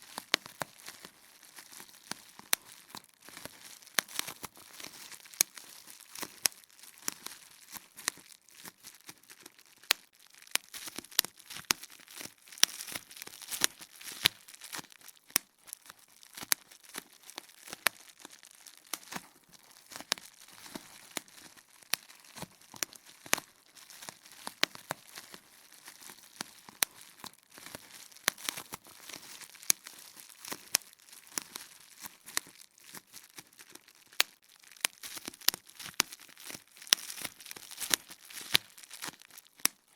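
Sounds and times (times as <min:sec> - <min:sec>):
bubble wrap popping: 0:00.0 - 0:39.9
plastic crinkling: 0:00.0 - 0:39.9.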